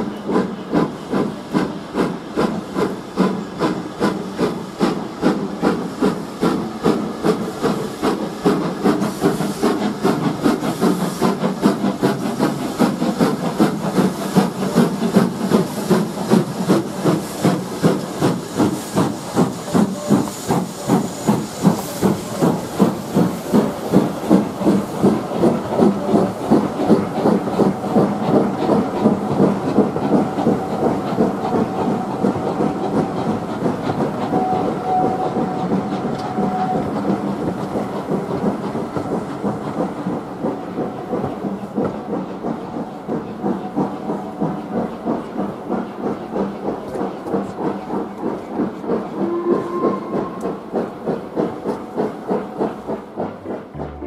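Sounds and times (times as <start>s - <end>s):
steam hiss: 0.0s - 53.8s
steam locomotive chuffing: 0.0s - 54.0s.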